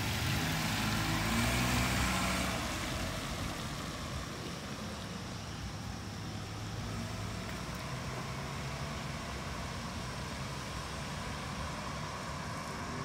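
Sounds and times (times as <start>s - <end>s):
cars idling in traffic: 0.0s - 13.0s.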